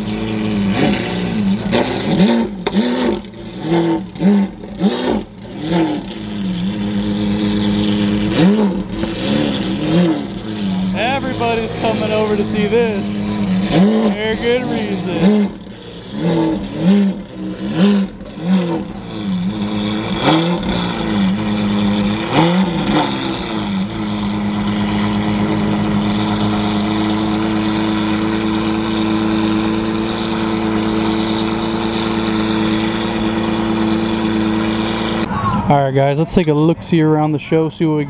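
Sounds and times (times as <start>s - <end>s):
car engine revving: 0.0s - 35.5s
car engine idling: 0.0s - 35.8s.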